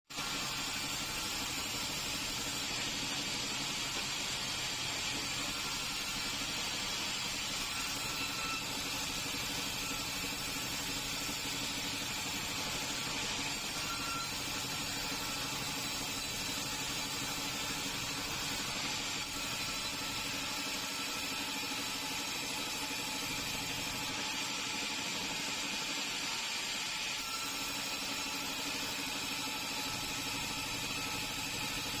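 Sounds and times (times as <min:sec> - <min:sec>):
sawmill machinery whirring: 0:00.1 - 0:32.0.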